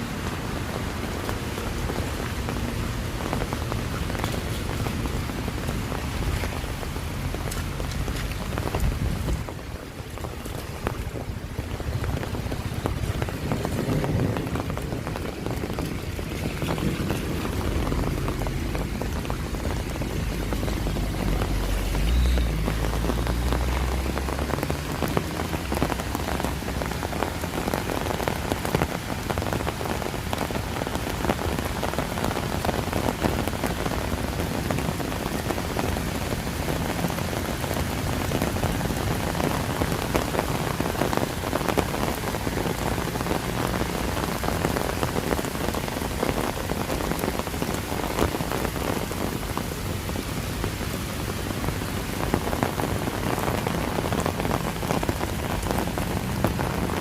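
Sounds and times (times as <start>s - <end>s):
heavy rain patter: 0.0s - 57.0s.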